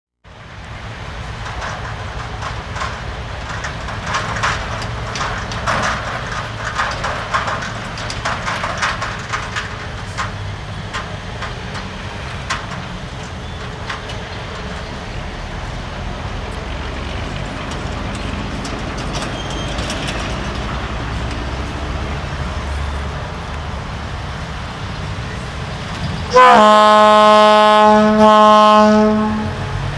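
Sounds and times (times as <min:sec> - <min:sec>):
freight wagons clacking: 0:00.3 - 0:26.6
diesel locomotive engine drone: 0:00.3 - 0:29.9.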